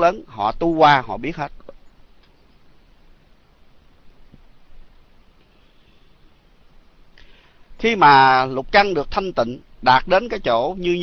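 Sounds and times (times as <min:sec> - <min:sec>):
faint room tone hiss: 0:00.0 - 0:11.0.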